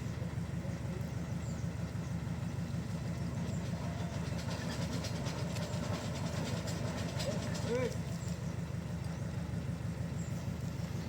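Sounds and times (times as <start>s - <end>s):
sawmill machinery droning and rattling: 0.0s - 11.0s.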